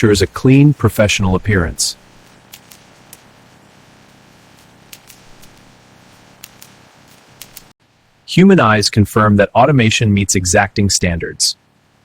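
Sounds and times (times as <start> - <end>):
faint machinery hum: 0.0 - 12.0.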